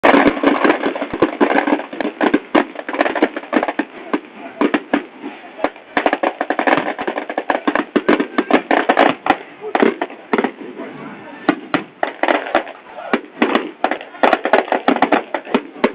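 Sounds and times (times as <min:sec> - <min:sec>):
bonfire cracking and popping: 0:00.0 - 0:10.6, 0:11.4 - 0:15.9.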